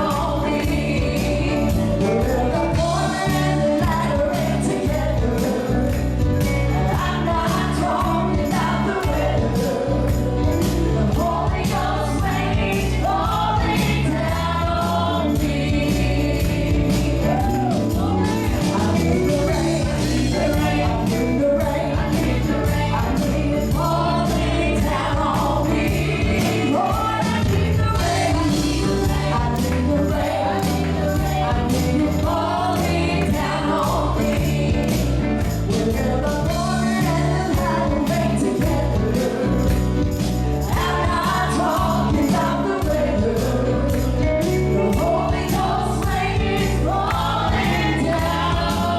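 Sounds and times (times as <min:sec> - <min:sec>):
gospel singers with band: 0:00.0 - 0:48.9
tambourine jingles: 0:00.0 - 0:48.9.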